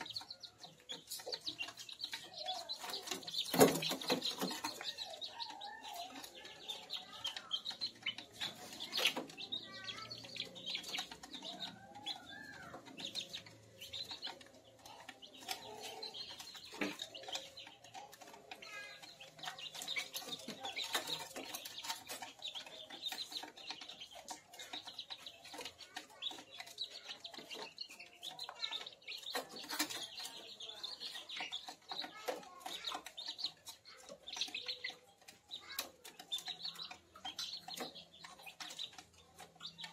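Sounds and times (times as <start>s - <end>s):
beaks tapping on feed tray: 0.0s - 39.9s
chicks cheeping: 0.0s - 39.9s.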